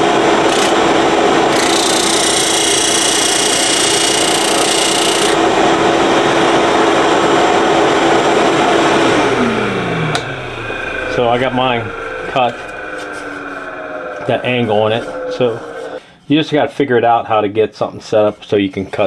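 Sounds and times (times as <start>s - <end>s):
motor winding down: 0.0s - 16.0s
power tool motor hum: 0.0s - 16.0s.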